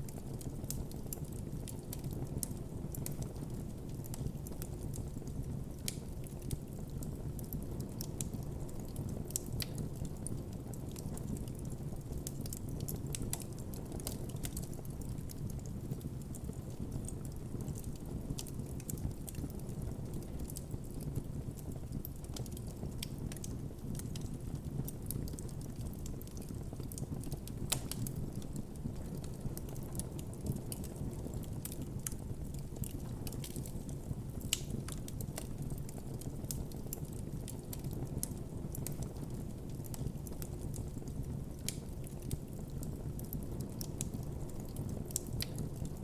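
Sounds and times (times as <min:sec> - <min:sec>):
wood crackling and popping: 0:00.1 - 0:46.0.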